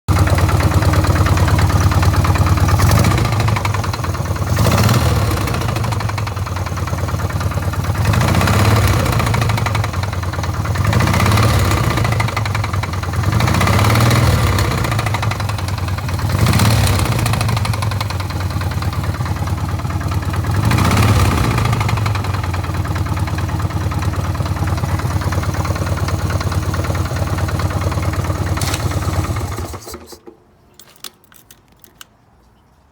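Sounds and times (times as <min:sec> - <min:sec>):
motorcycle engine idling and revving: 0:00.1 - 0:30.0.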